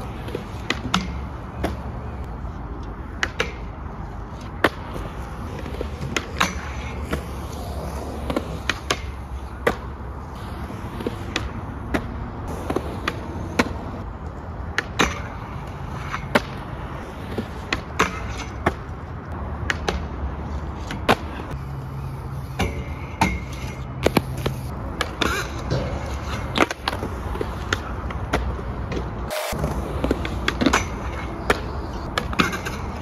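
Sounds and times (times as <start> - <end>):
skateboard clacks: 0.0 - 21.6, 22.5 - 33.0
skateboard wheels rumbling on concrete: 0.0 - 33.0.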